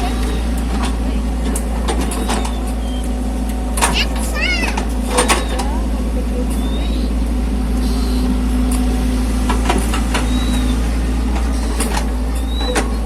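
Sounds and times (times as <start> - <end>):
mini excavator engine running: 0.0 - 13.0.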